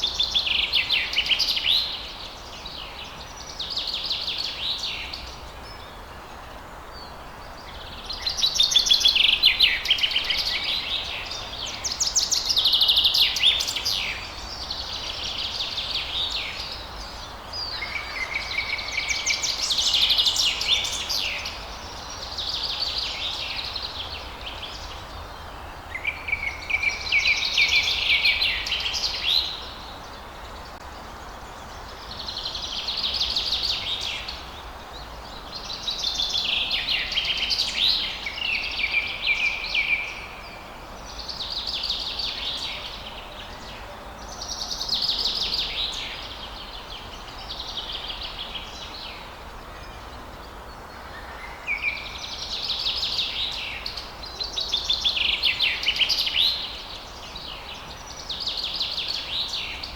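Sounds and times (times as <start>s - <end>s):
low background hiss: 0.0s - 59.9s.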